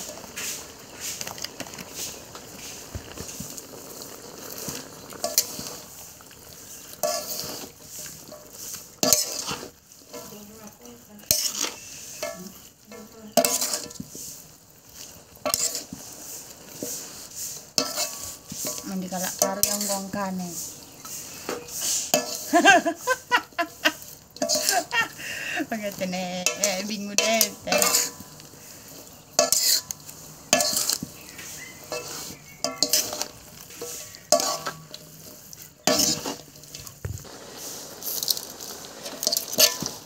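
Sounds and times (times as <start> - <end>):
metal spatula scraping wok: 0.0 - 40.0.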